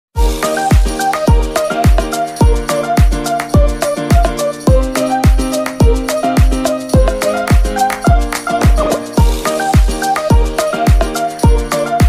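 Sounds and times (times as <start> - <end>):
repeating bright melody: 0.2 - 12.0.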